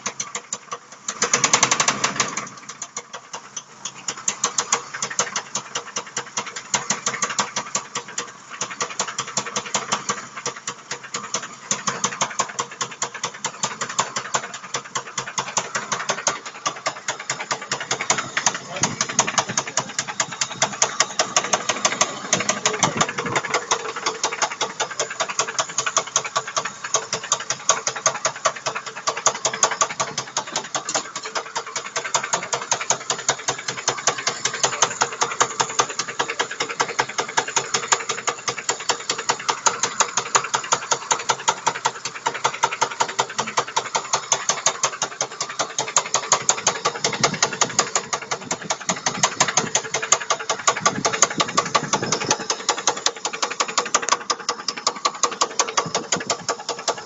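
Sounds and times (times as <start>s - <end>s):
car engine idling with knocking: 0.0s - 57.0s.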